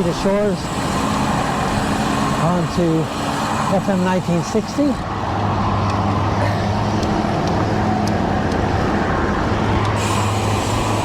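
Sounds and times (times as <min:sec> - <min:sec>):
highway traffic noise: 0:00.0 - 0:11.0.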